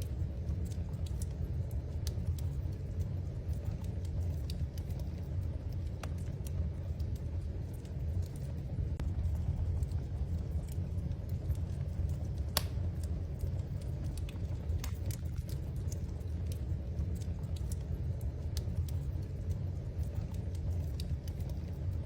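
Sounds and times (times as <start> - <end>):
fire crackling and popping: 0.0 - 22.0
fire flames rumbling: 0.0 - 22.0.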